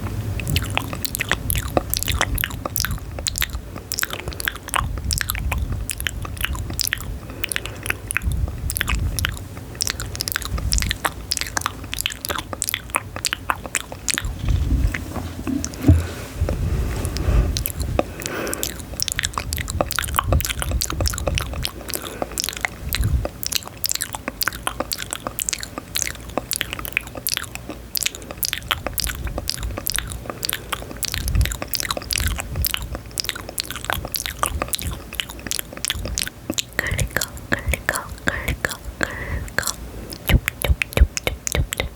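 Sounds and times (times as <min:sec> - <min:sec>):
mouth clicks: 0:00.0 - 0:41.9
crisp chewing crunches: 0:00.4 - 0:41.9.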